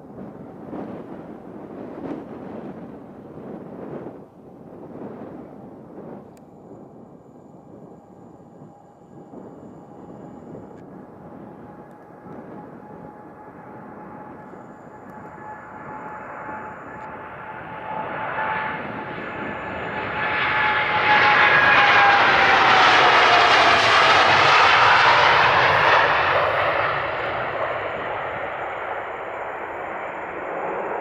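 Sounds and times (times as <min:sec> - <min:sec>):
jet engines passing by: 0:00.0 - 0:31.0.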